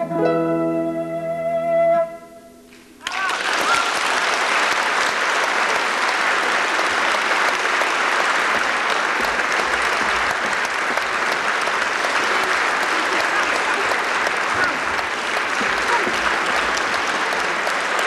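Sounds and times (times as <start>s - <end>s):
audience applauding: 3.0s - 18.0s.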